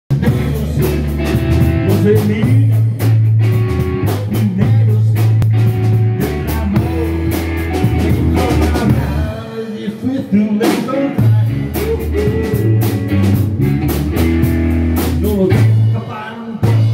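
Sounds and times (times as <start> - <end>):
drum kit beat: 0.1 - 16.9
electric bass low notes: 0.1 - 16.9
live blues band playing: 0.1 - 16.9.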